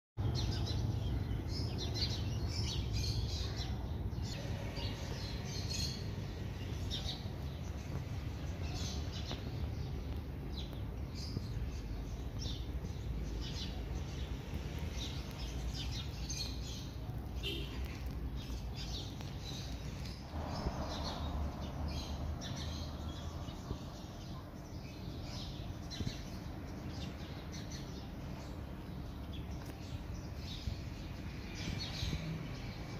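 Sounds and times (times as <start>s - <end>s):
small birds chirping: 0.2s - 32.9s.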